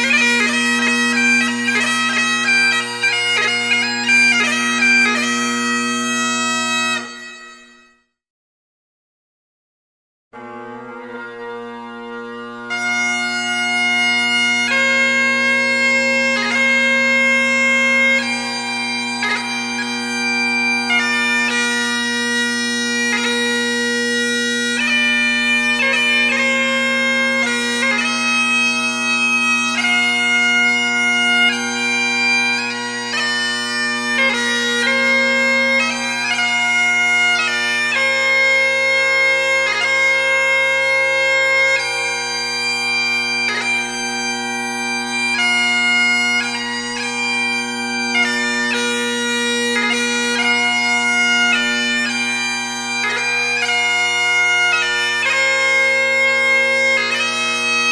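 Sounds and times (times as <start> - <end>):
bagpipes playing a tune: 0.0 - 8.1, 10.4 - 57.9.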